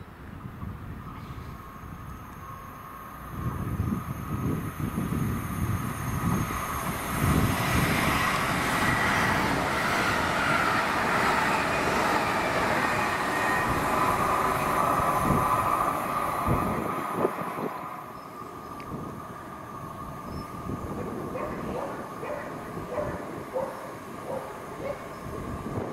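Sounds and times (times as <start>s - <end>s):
train wheels rushing on rail: 0.2s - 25.9s
whining tone: 1.1s - 25.9s.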